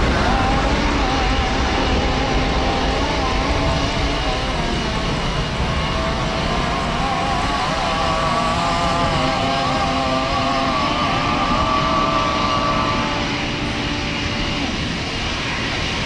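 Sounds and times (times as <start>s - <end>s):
jet engine whining tones: 0.0s - 16.0s
jet engines rushing: 0.0s - 16.0s.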